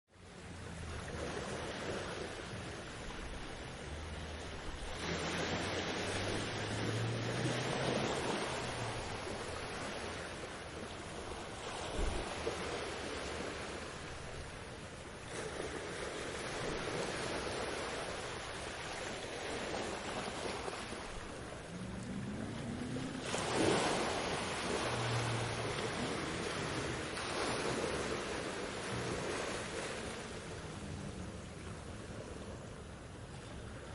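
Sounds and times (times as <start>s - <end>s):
ocean waves washing onto beach: 0.1s - 33.9s.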